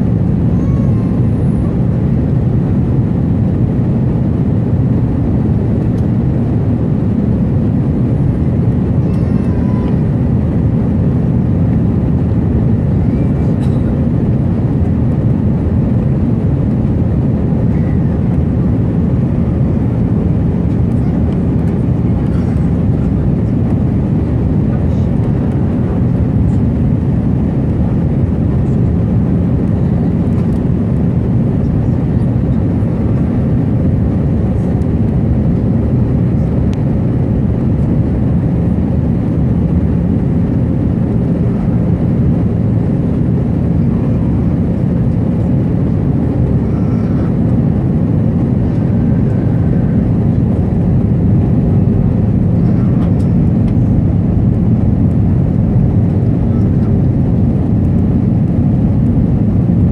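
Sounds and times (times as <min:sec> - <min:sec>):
jet engine and airflow drone: 0:00.0 - 0:59.9
low hum: 0:00.0 - 0:59.9.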